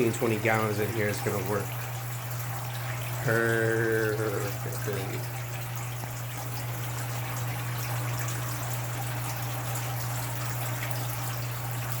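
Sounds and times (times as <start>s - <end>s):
water pump humming: 0.0s - 12.0s
water trickling and splashing: 0.0s - 12.0s.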